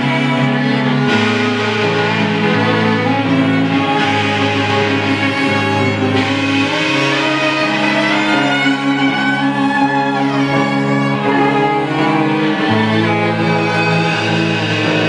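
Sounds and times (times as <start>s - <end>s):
cello: 0.0s - 15.0s
violin: 0.0s - 15.0s.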